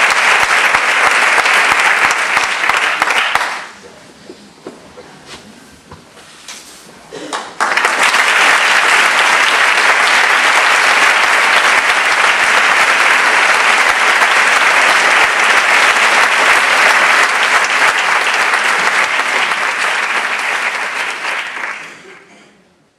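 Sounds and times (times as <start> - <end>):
audience applauding: 0.0 - 3.8, 7.3 - 22.2.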